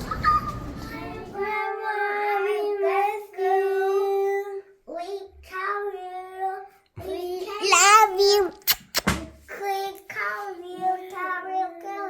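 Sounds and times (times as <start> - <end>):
background noise: 0.0 - 12.0
child singing: 0.9 - 8.6, 9.5 - 12.0.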